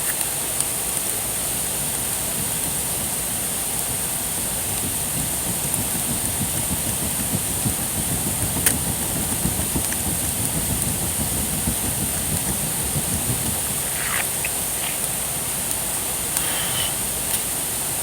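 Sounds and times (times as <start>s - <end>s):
campfire crackling: 0.0s - 18.0s
high hiss: 0.0s - 18.0s.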